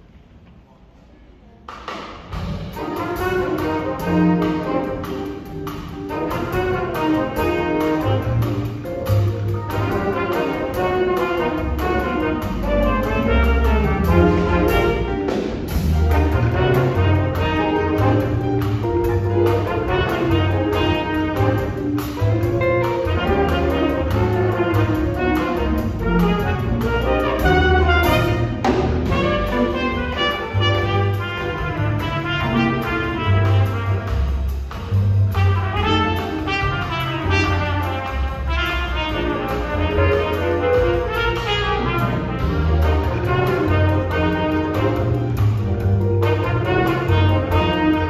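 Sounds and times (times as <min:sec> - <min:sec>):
piano: 0:00.0 - 0:48.0
drum kit: 0:01.6 - 0:48.0
trumpet: 0:02.3 - 0:34.6, 0:35.2 - 0:48.0
trombone: 0:02.3 - 0:48.0
upright bass: 0:02.3 - 0:48.0
saxophone: 0:02.7 - 0:34.5, 0:35.3 - 0:48.0.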